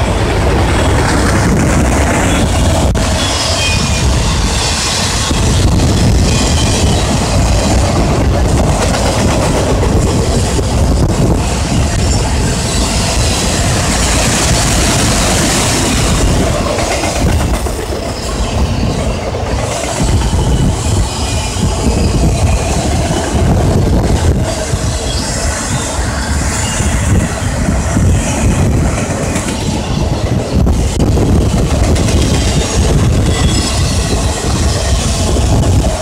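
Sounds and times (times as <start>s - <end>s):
freight train wheels clattering on rails: 0.0s - 36.0s.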